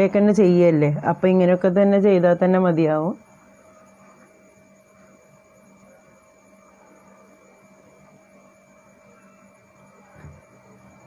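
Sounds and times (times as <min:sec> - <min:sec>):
faint electrical hum: 0:00.0 - 0:11.0
low room noise: 0:00.0 - 0:11.0.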